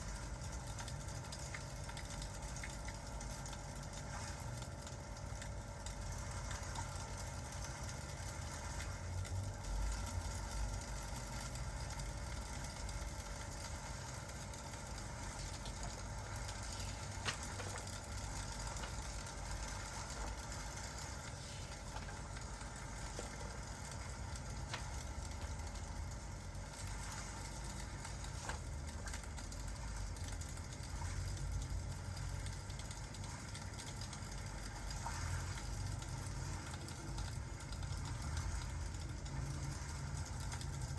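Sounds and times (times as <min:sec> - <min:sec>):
rain: 0:00.0 - 0:40.9.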